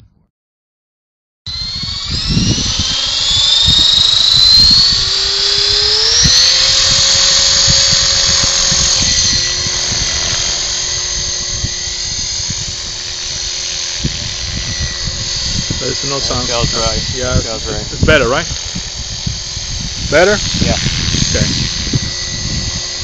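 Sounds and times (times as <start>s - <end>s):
radio-control helicopter whine: 1.5s - 23.0s
wind buffeting microphone: 1.5s - 23.0s.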